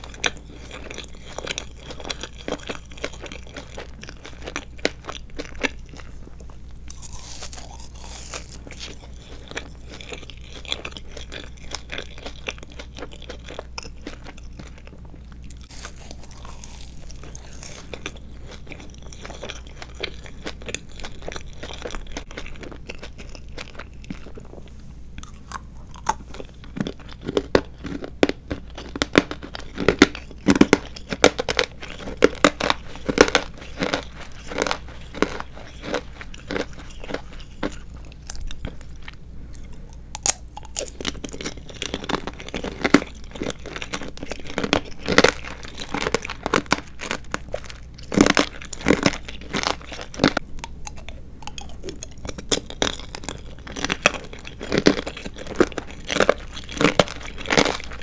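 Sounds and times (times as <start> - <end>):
candy shell crunching: 0.0 - 24.6, 25.2 - 58.0
slow chewing: 0.0 - 58.0.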